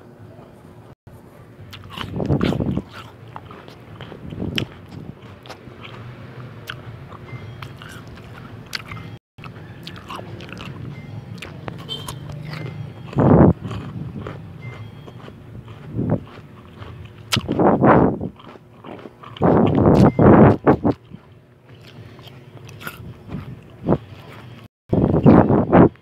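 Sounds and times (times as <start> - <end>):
crunchy biting and chewing: 1.7 - 25.5.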